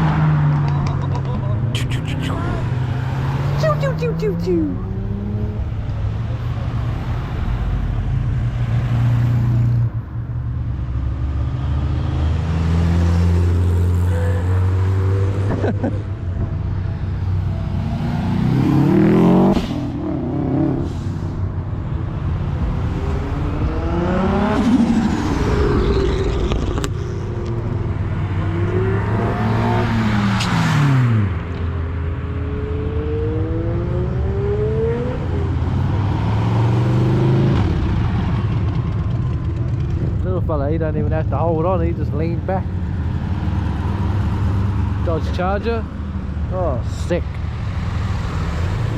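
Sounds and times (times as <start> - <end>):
cars driving past: 0.0 - 48.9
engines revving: 0.0 - 48.9.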